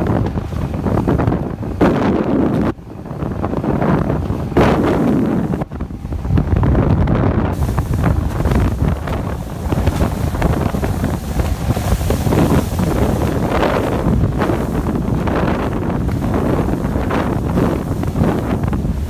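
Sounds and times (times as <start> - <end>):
jet ski running fast: 0.0 - 19.0
water rushing and spraying: 0.0 - 19.0
wind buffeting microphone: 0.0 - 19.0.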